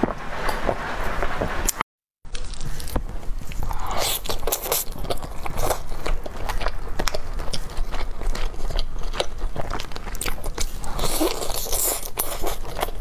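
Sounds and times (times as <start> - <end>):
person biting and chewing: 2.3 - 13.0.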